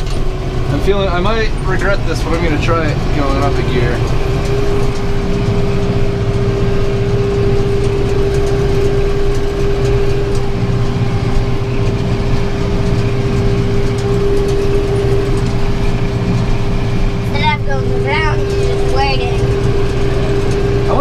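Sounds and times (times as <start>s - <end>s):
baler whine: 0.0s - 21.0s
tractor engine hum: 0.0s - 21.0s.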